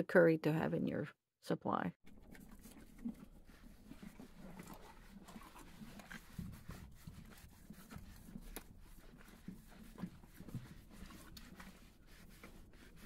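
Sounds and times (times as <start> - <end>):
horse munching feed: 2.1 - 13.0
rubber groomer scrubbing horse: 2.1 - 13.0.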